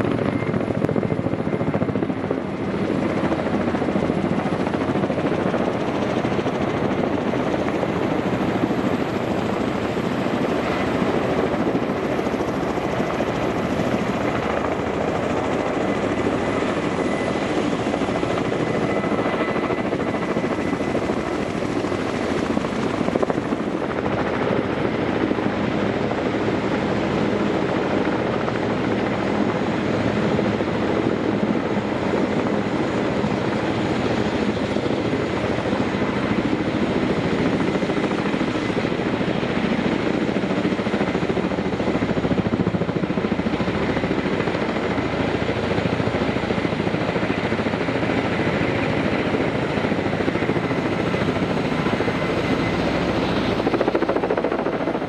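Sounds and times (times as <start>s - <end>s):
helicopter flying overhead: 0.0s - 55.0s.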